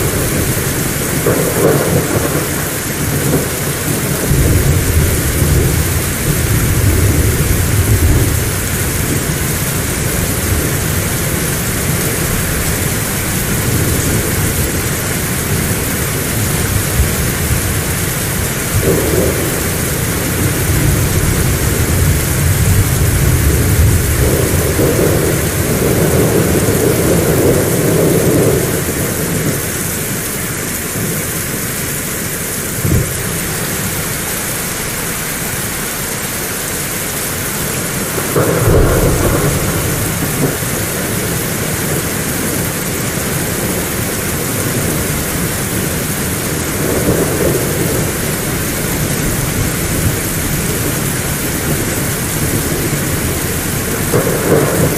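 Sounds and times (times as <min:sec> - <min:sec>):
heavy rain: 0:00.0 - 0:54.9
thunder rumbling: 0:00.0 - 0:54.9.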